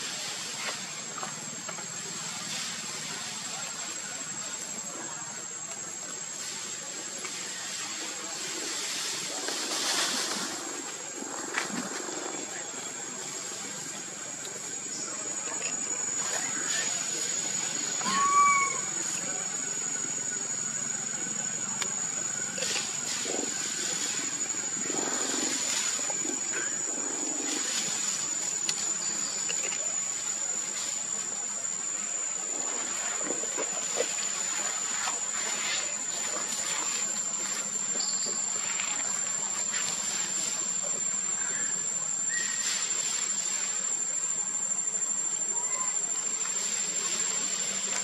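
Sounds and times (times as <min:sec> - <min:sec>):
background hiss: 0:00.0 - 0:48.0
high-pitched insect drone: 0:00.0 - 0:48.0.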